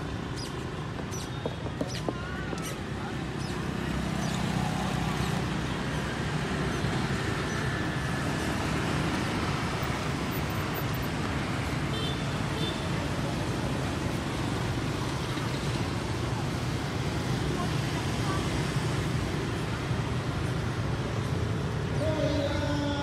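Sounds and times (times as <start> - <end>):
motorbikes and scooters passing: 0.0 - 23.0.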